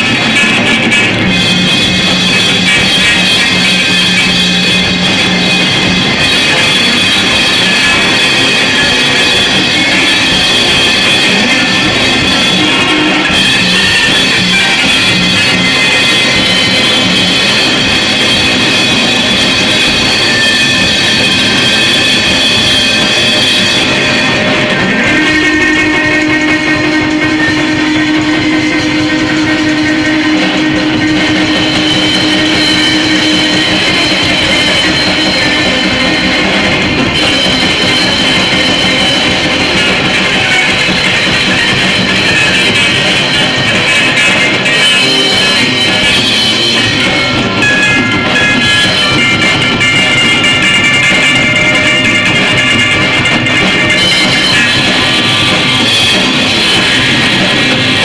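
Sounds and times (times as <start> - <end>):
distorted noise music: 0.0 - 58.0.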